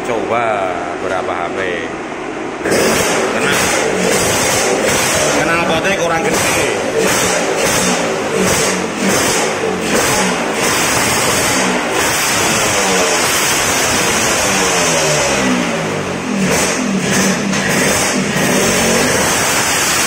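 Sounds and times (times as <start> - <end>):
scooter engine revving: 2.6 - 20.0.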